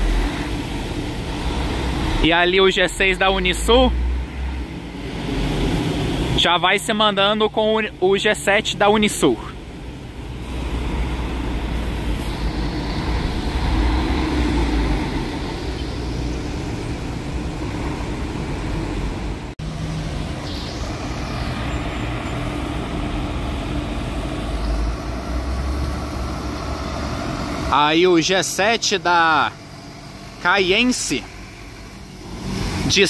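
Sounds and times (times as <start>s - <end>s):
diesel coach engines: 0.0s - 33.0s.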